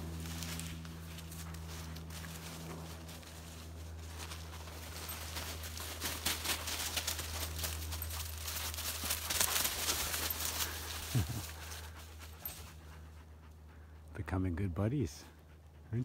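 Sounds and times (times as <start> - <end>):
paws crunching through dry leaves: 0.0 - 13.1
steady low hum: 0.0 - 16.0.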